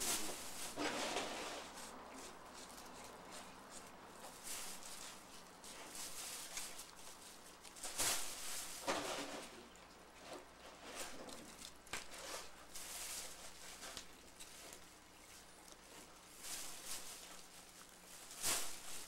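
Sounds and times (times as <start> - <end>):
handling rustles and knocks: 0.0 - 19.0.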